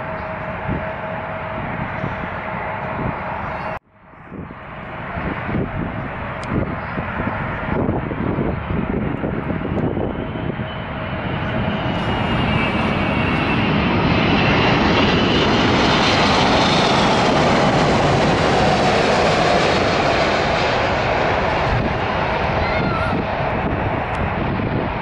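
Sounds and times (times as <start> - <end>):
airliner engines passing: 0.0 - 25.0.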